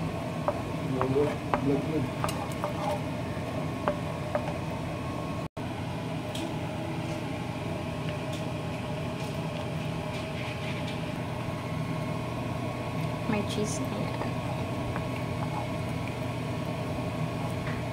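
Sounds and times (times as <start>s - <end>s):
kitchen fan humming: 0.0s - 17.9s.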